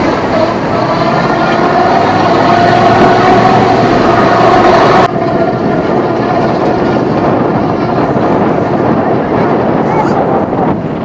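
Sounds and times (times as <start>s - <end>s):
off-road vehicle engine running: 0.0s - 9.8s
drivetrain whine: 0.0s - 11.0s.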